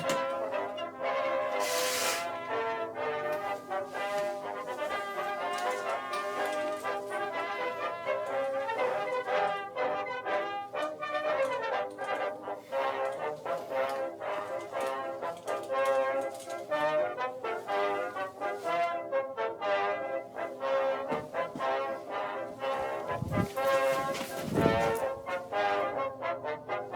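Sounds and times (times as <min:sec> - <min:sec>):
brass music melody: 0:00.0 - 0:26.9.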